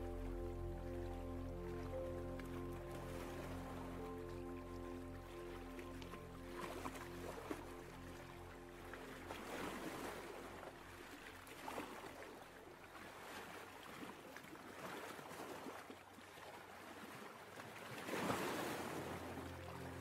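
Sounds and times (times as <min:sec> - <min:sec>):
ocean waves washing in: 0:00.0 - 0:15.1, 0:17.9 - 0:20.0.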